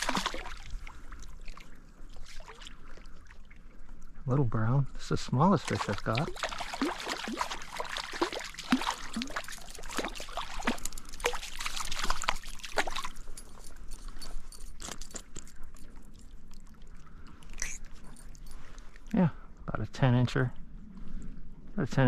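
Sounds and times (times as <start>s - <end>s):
water splashing and dripping: 0.0s - 4.2s, 5.3s - 19.1s.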